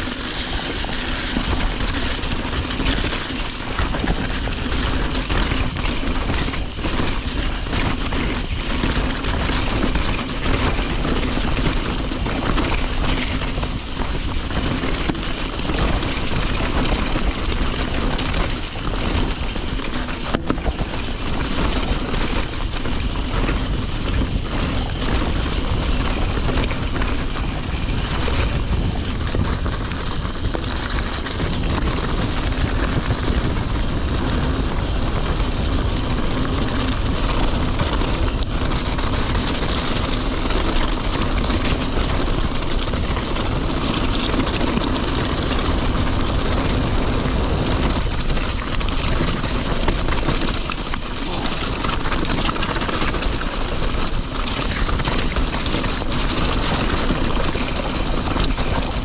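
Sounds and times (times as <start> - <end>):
bike rattling: 0.0 - 59.0
tyres rumbling over gravel: 0.0 - 59.0
wind rushing over microphone: 0.0 - 59.0.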